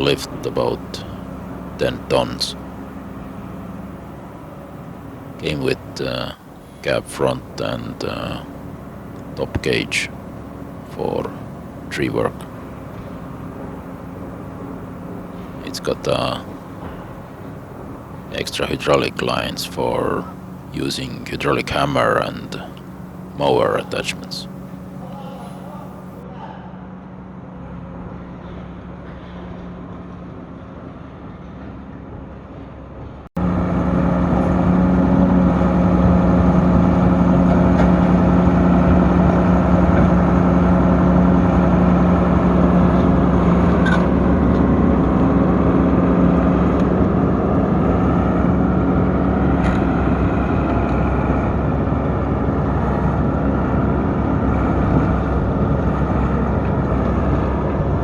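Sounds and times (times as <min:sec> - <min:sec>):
excavator diesel engine running: 0:00.0 - 0:26.2, 0:33.4 - 0:58.0.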